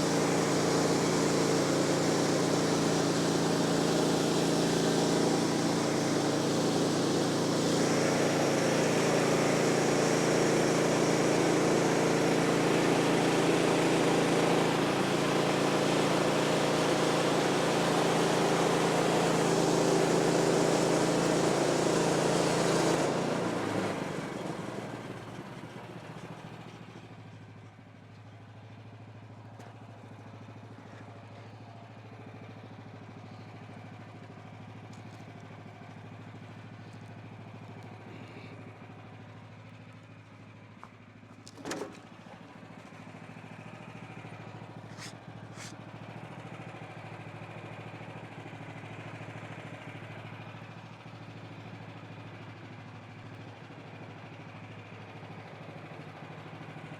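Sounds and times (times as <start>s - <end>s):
small gasoline engine running: 0.0s - 56.9s.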